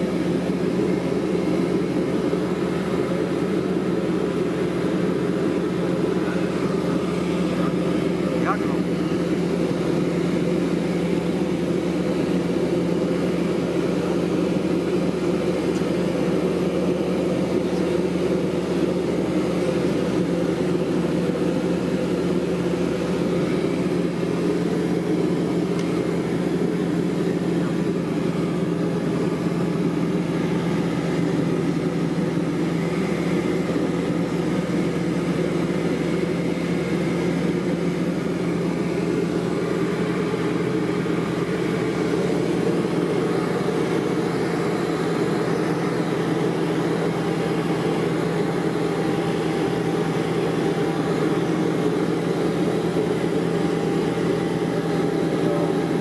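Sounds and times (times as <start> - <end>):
light aircraft engine in cockpit: 0.0 - 56.0.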